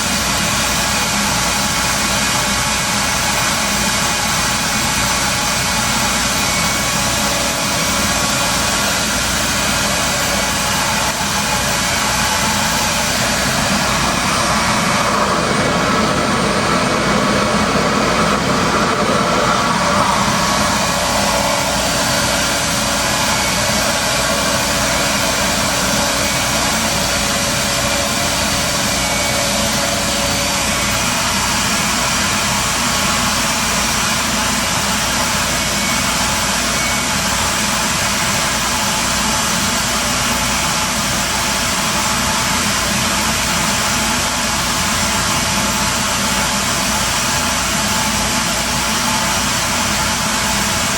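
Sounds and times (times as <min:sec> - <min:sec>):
hair dryer air rush and motor hum: 0:00.0 - 0:50.9.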